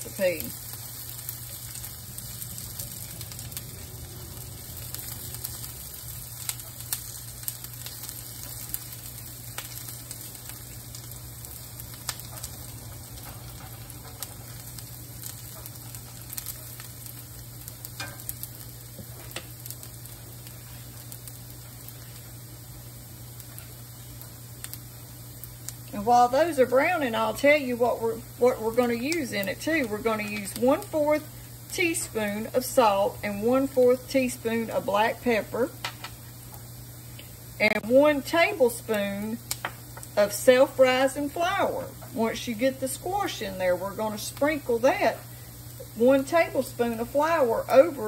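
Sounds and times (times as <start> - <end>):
onions sizzling in oil: 0.0 - 48.0.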